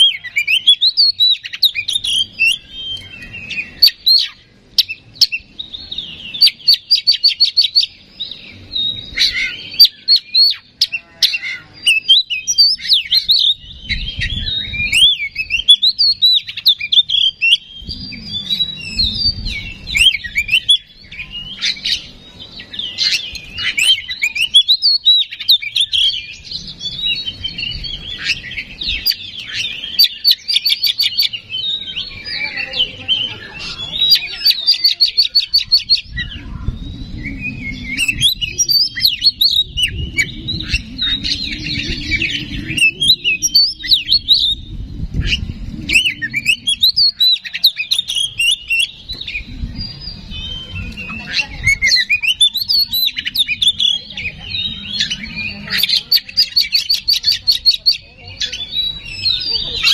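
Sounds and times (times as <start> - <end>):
songbird singing whistles: 0.0 - 59.9.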